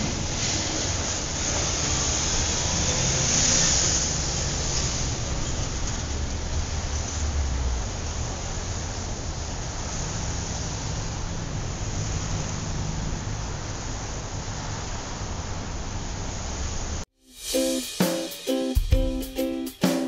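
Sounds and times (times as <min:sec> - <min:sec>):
passing road traffic: 0:00.0 - 0:18.8.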